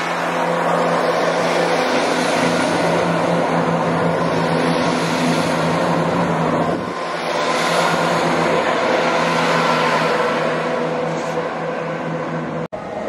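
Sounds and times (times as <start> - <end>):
diesel engines humming: 0.0 - 13.0
wheel and rail noise: 0.0 - 13.0.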